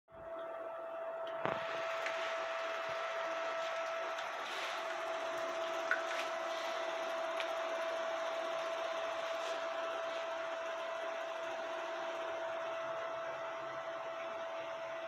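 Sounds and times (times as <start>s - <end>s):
cooling fans humming: 0.2s - 15.0s.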